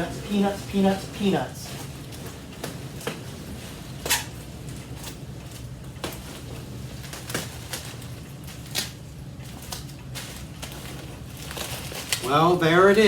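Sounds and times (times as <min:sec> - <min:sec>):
packing peanuts rustling and crackling: 0:00.0 - 0:13.0.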